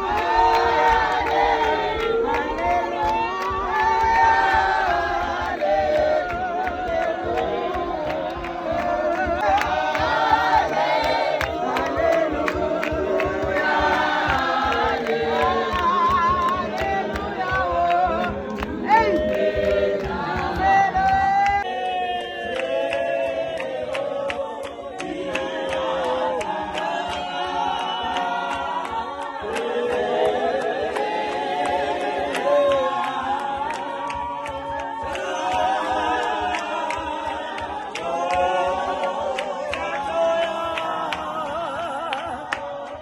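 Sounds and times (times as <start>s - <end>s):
choir singing unaccompanied: 0.0s - 43.0s.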